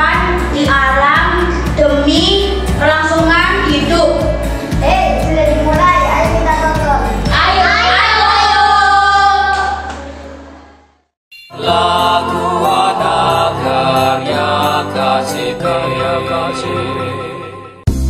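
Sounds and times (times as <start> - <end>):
music with singing: 0.0 - 10.9, 11.5 - 18.0.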